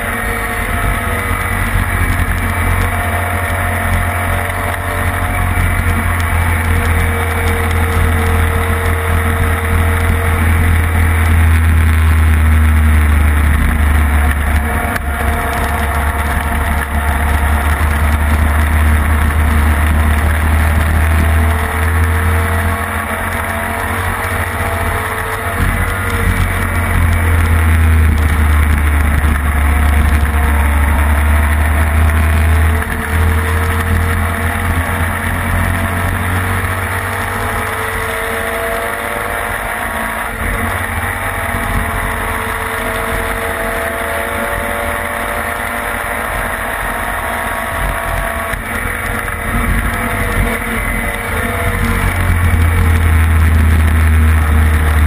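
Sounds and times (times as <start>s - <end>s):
racing engine running hard: 0.0s - 55.0s.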